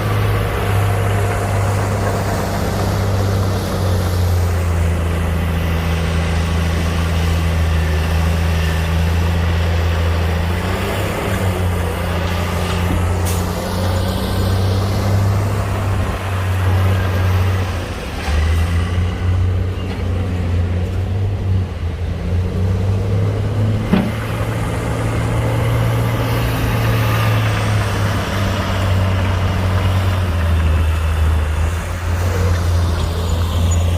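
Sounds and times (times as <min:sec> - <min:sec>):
heavy diesel engine droning: 0:00.0 - 0:33.9.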